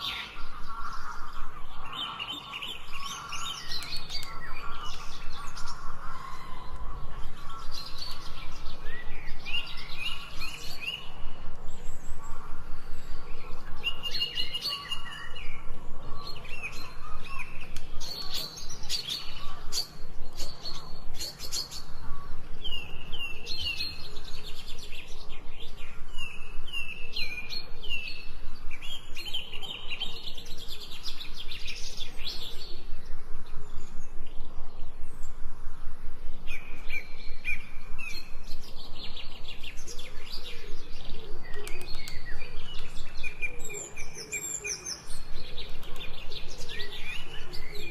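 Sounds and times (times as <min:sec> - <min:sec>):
songbirds chirping and singing: 0:00.0 - 0:47.9.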